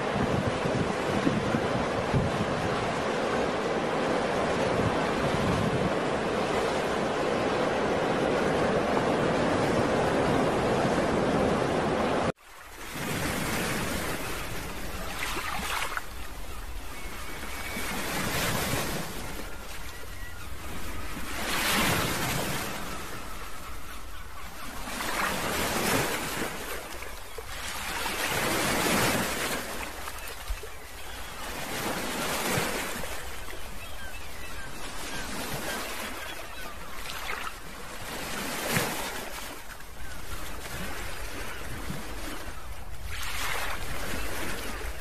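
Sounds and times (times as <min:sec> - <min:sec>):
ocean waves washing: 0:00.0 - 0:45.0.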